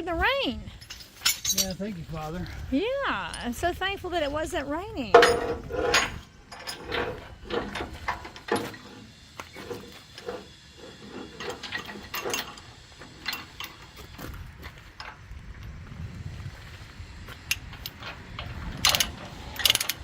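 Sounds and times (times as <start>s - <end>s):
chain clinking and rattling: 0.4s - 2.3s, 3.1s - 15.2s, 17.5s - 20.0s.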